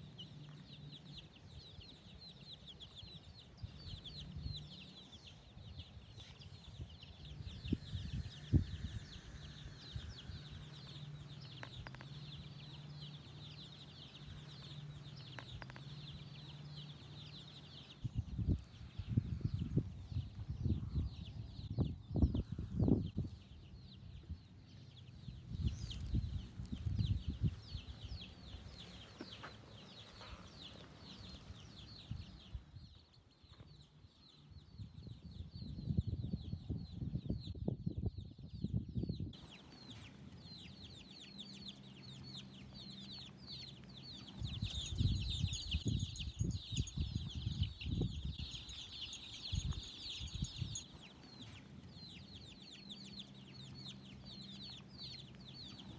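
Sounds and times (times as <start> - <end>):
chicks peeping: 0.0 - 55.9.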